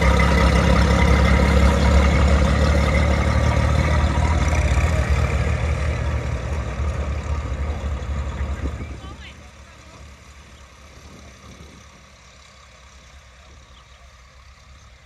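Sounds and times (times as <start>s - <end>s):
tractor engine driving past: 0.0s - 15.0s.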